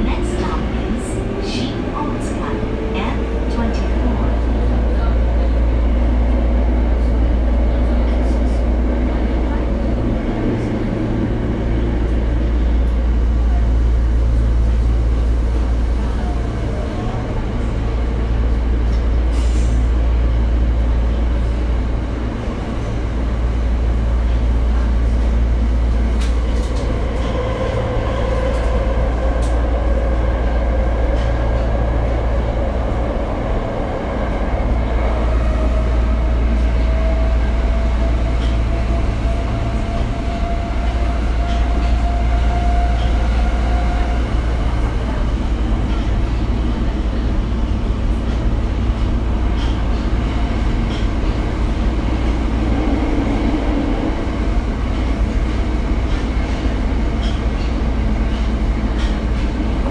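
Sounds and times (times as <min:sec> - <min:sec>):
subway train wheels rumbling: 0:00.0 - 0:59.9.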